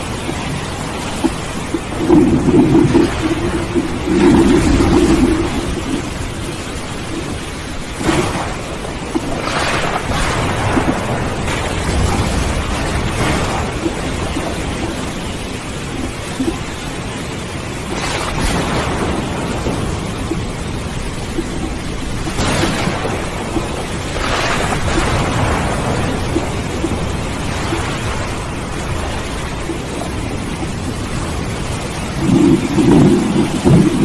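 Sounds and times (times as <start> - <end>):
thunder rolling: 0.0 - 16.6, 17.9 - 34.0
steady rain: 0.0 - 34.0.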